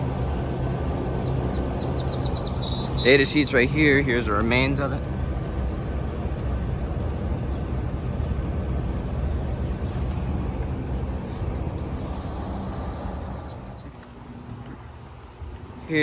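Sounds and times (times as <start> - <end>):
compressor hum: 0.0 - 16.0
condenser fan air rushing: 0.0 - 16.0.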